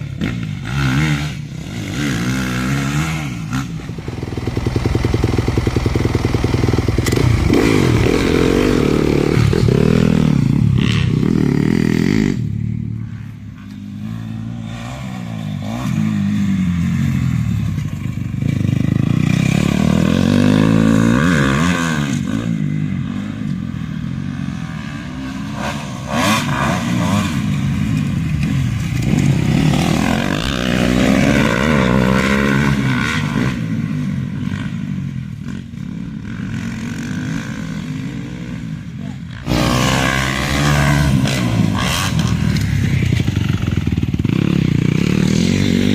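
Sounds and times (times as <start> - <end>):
motocross bike engine revving: 0.0 - 45.9.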